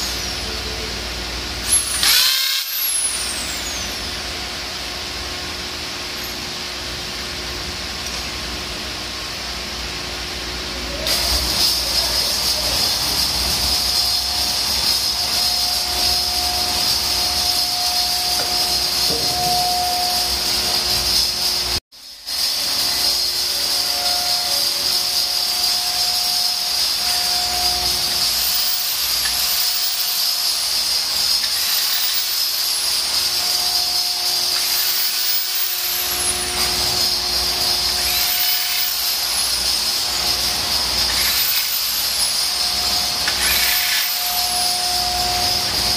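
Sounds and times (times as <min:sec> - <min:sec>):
electric drill cutting metal: 0:00.0 - 0:04.9, 0:11.0 - 0:45.9.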